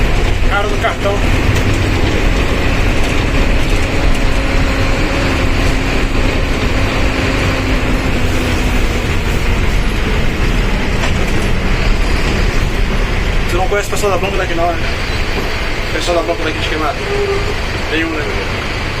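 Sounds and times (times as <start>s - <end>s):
bus diesel engine rumble: 0.0s - 19.0s.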